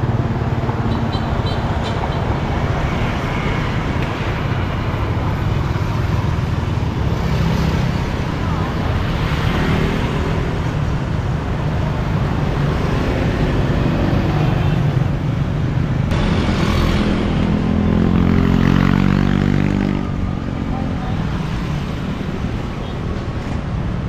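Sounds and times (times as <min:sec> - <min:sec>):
motorbike traffic rumble: 0:00.0 - 0:24.0.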